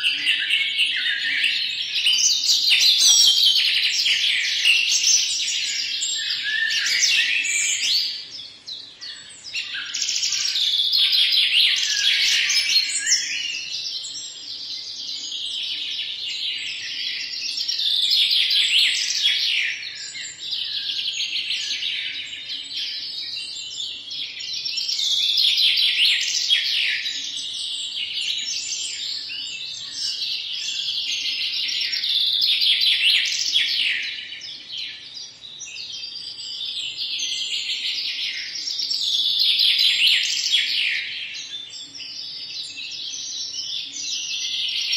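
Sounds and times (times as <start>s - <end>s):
chorus of birds chirping: 0.0s - 44.9s.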